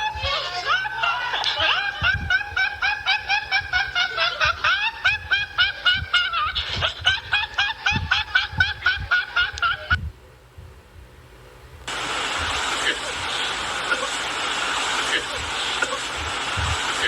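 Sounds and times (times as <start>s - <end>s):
high-pitched cartoonish snickering laugh: 0.1s - 10.0s, 12.8s - 17.0s.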